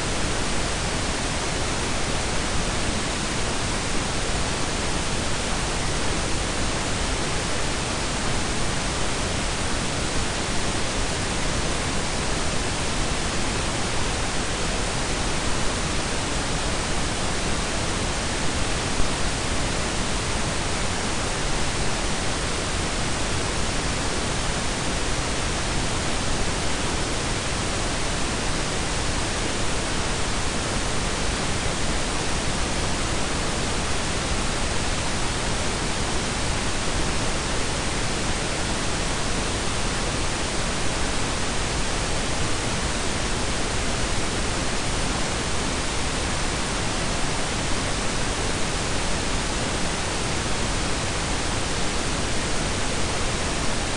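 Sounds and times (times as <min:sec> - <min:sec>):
steady synthetic noise hiss: 0:00.0 - 0:53.9.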